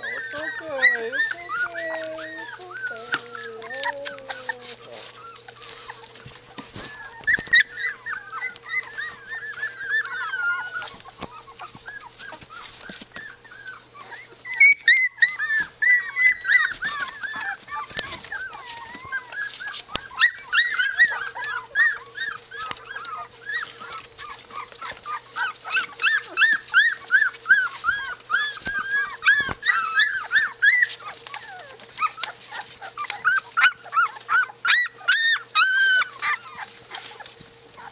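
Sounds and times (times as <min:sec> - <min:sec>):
faint steady hum: 0:00.0 - 0:37.9
puppies whining and squeaking: 0:00.0 - 0:37.9.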